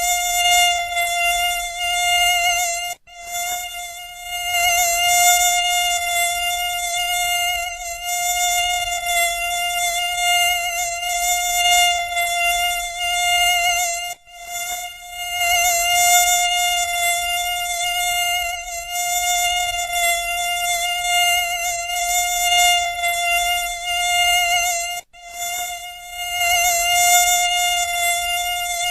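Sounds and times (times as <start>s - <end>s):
mosquito whine: 0.0s - 28.9s.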